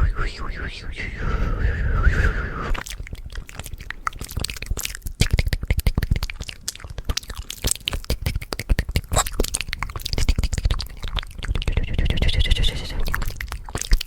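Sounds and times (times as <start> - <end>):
wet mouth clicks and smacks: 2.7 - 14.0.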